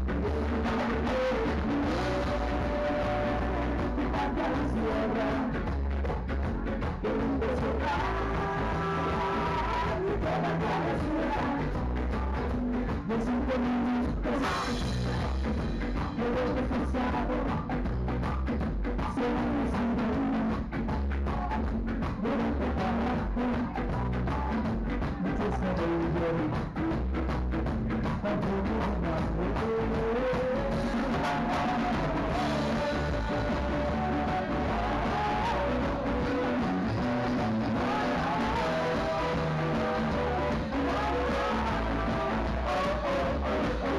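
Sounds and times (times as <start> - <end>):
drum kit beat: 0.0 - 43.9
electric bass: 0.0 - 43.9
electric guitar: 0.0 - 43.9
live rock band playing: 0.0 - 43.9.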